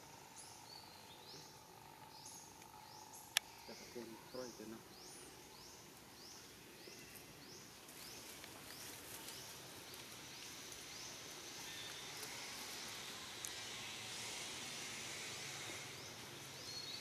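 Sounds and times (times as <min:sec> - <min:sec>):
high insect hiss: 0:00.0 - 0:17.0.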